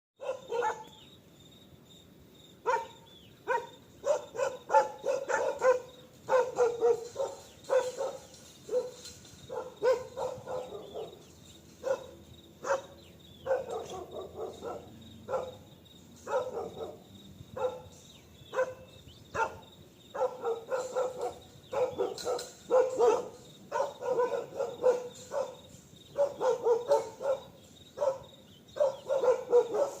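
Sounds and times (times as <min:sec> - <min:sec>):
dog barking: 0:00.2 - 0:01.0, 0:02.6 - 0:30.0.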